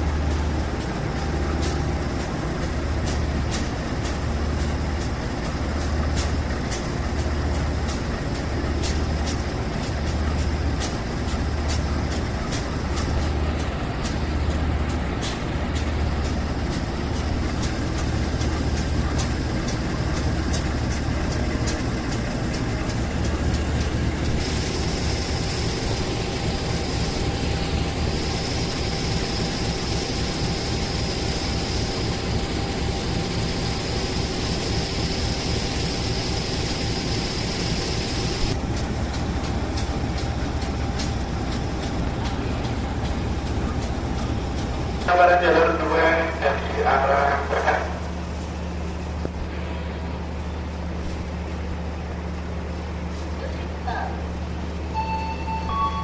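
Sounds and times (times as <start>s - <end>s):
train wheels clicking over rails: 0.0s - 49.4s
low pulsing train rumble: 0.0s - 56.0s
steady high whine: 0.0s - 56.0s.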